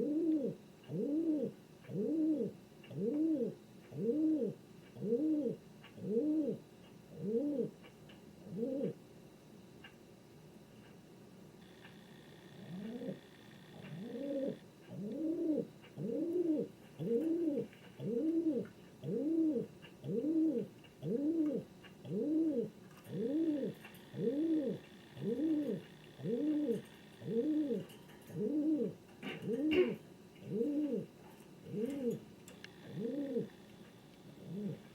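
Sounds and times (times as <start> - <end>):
pigeon cooing: 0.0 - 7.8, 8.4 - 9.0, 12.4 - 33.7, 34.3 - 34.9.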